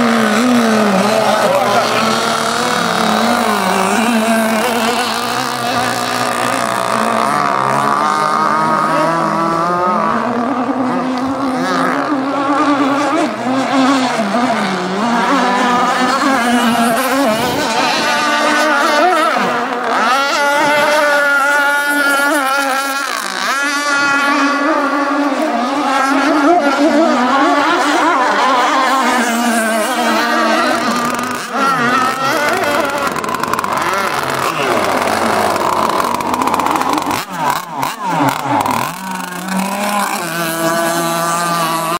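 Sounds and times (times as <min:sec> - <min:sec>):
model boat engine high-pitched: 0:00.0 - 0:41.9.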